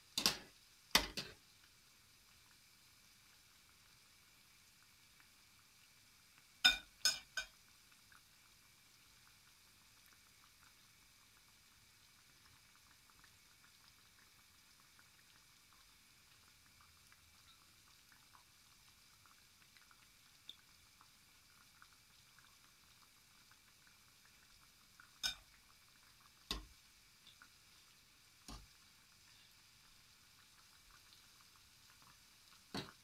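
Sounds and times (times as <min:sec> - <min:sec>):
dough sizzling in oil: 0:00.0 - 0:33.0.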